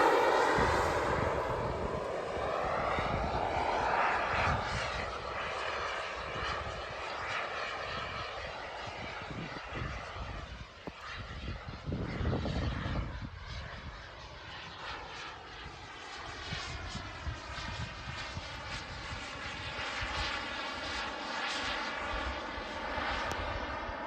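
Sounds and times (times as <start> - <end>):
model jet turbine engine running: 0.0 - 24.0.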